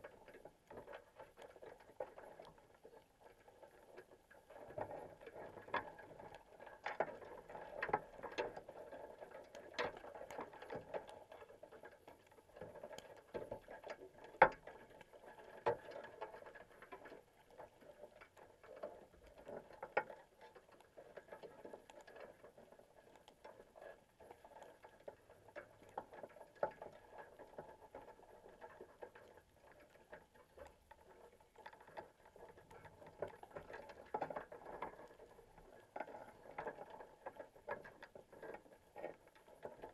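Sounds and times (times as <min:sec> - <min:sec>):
underwater clicks and taps: 0:00.0 - 0:39.9.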